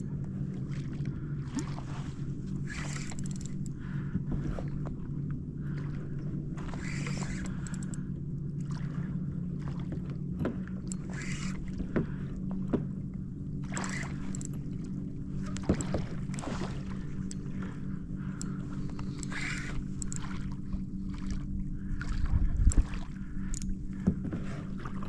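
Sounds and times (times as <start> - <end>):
steady low hum: 0.0 - 25.0
paddle strokes splashing: 0.3 - 7.7, 8.6 - 13.0, 13.6 - 25.0.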